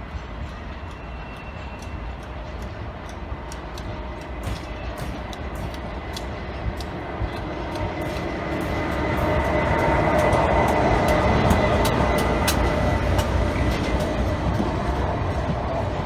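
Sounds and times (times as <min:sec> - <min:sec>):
clicks from rails and wheels: 0:00.0 - 0:16.0
train rumbling: 0:00.0 - 0:16.0.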